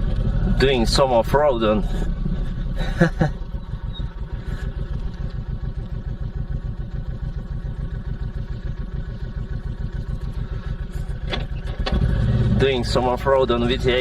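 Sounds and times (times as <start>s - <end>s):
motorcycle engine running low: 0.0s - 14.0s.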